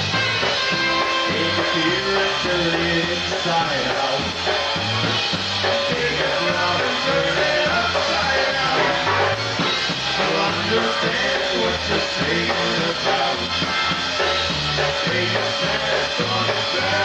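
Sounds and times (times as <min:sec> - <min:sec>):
polka band playing: 0:00.0 - 0:17.0.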